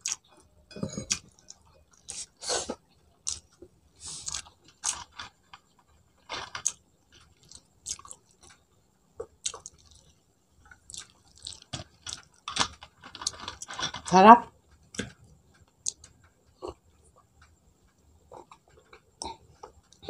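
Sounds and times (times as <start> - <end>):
person chewing food: 0.0 - 14.0, 14.6 - 20.0.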